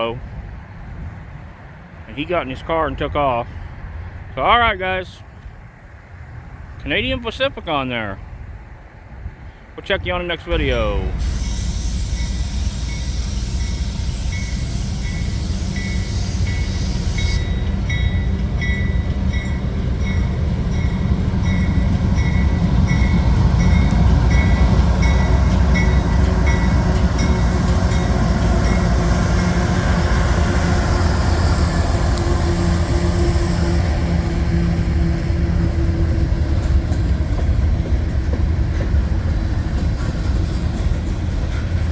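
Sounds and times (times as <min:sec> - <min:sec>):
freight train rumbling: 0:00.0 - 0:41.9.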